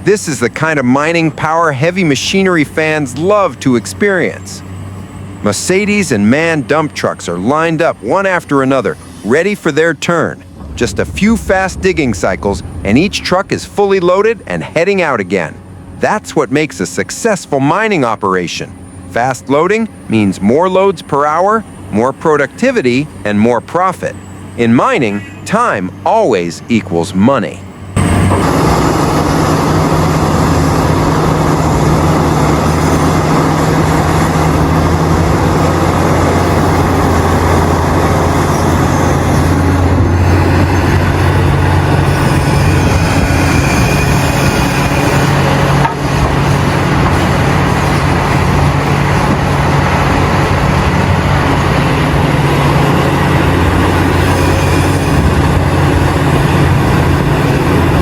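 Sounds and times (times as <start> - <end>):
heavy diesel machinery drone: 0.0 - 58.0.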